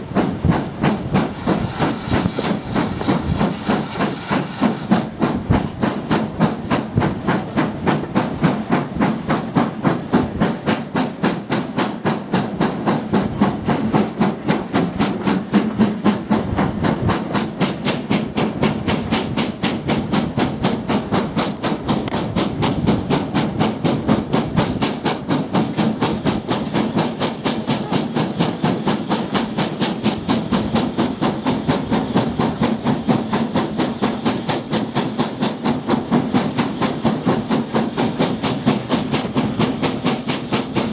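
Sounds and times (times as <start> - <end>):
hiss of steam: 0.0 - 40.9
steam locomotive exhaust chuffs: 0.0 - 40.9
train running noise: 0.0 - 40.9.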